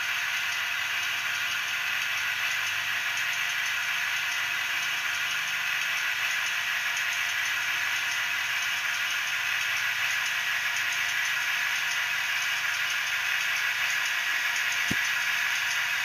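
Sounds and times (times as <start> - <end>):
diesel engine sound from small speaker: 0.0 - 16.0
faint fast ticking: 0.0 - 16.0.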